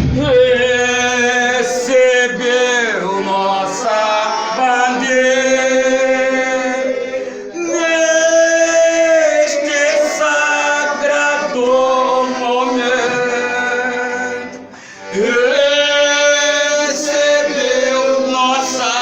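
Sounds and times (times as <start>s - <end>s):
men singing long held notes: 0.0s - 19.0s.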